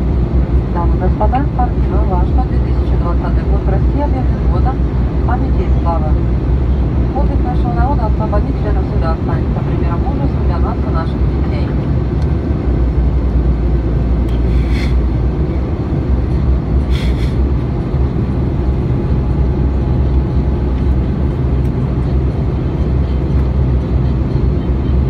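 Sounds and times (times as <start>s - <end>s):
airplane cabin engine roar: 0.0s - 25.0s.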